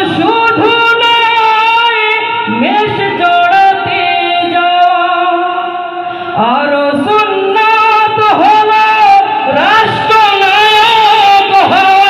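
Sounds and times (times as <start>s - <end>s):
high voice singing: 0.0s - 12.0s.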